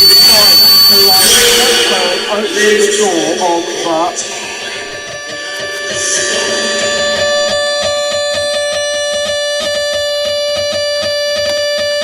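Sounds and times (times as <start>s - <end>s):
electronic drone: 0.0s - 12.0s.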